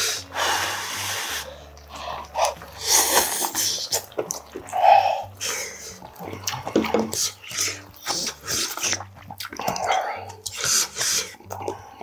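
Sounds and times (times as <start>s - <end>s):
man slurping noodles: 0.0s - 12.0s
chewing: 1.5s - 12.0s.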